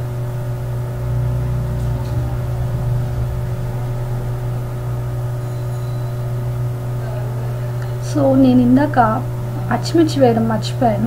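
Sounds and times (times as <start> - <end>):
low hum with tones: 0.0 - 9.9.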